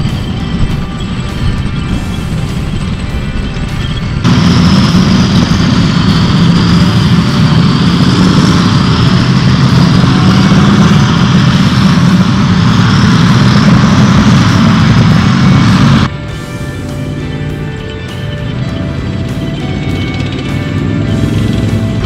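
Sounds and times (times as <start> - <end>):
high wavering whine: 0.0 - 22.0
tank engines and tracks rumbling: 0.0 - 22.0.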